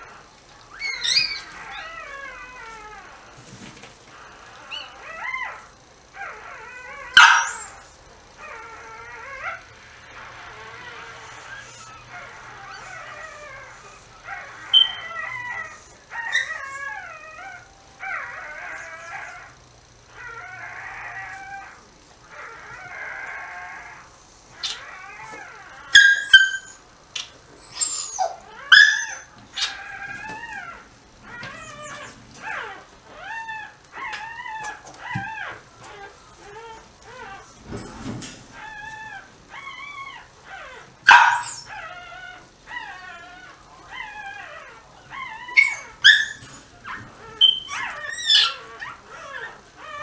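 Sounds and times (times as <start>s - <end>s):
puppy whining and squealing: 0.0s - 3.4s, 4.1s - 50.0s.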